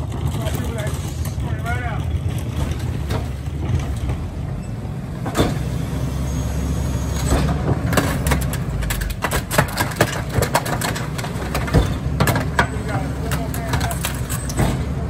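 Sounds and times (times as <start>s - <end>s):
clanks and rattles: 0.0s - 5.8s, 7.2s - 15.0s
garbage truck engine rumble: 0.0s - 15.0s.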